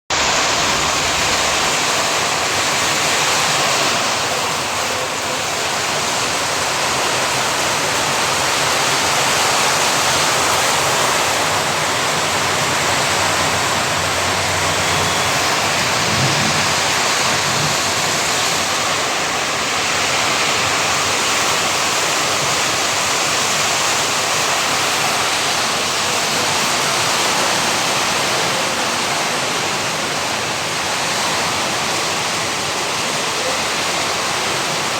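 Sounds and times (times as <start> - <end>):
heavy rain pouring: 0.1 - 34.9
stormy wind: 0.1 - 34.9.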